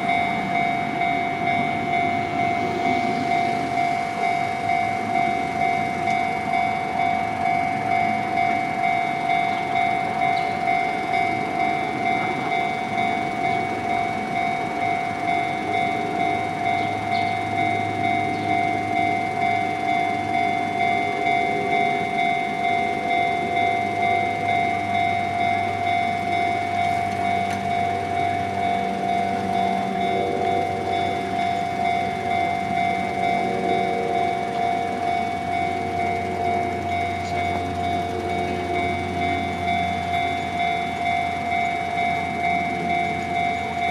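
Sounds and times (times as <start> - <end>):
level crossing bell ringing: 0.0 - 43.9
passing train rumble: 0.0 - 43.9.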